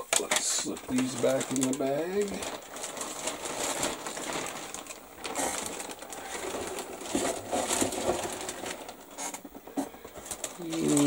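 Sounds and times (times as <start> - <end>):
plastic bag crinkling and rustling: 0.0 - 11.0.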